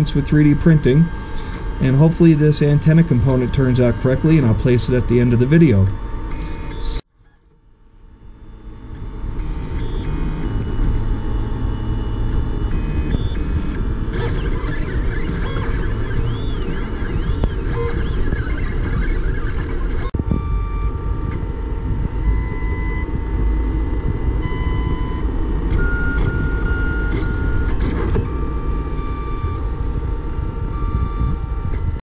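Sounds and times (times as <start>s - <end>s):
stepper motors whining: 0.0s - 7.4s, 8.2s - 32.0s.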